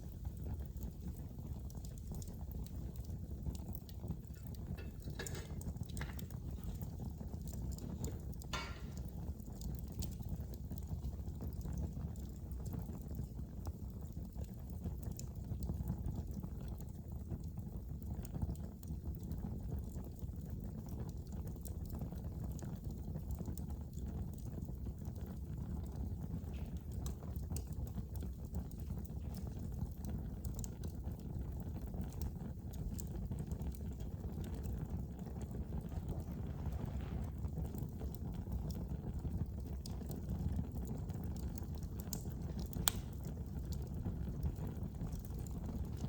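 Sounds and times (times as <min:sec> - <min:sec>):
flames rumbling: 0:00.0 - 0:46.0
wood fire popping and snapping: 0:00.0 - 0:46.0.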